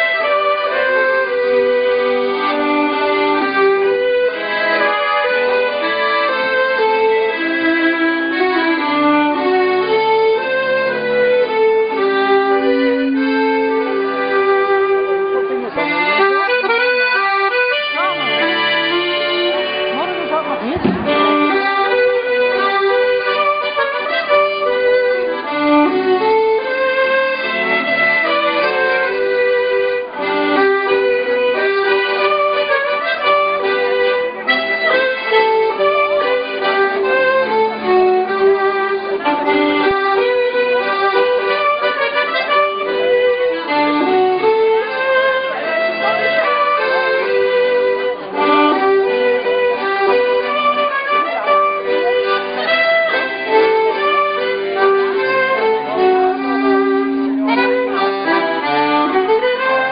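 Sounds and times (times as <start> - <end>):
fiddle and accordion folk music: 0.0 - 59.9.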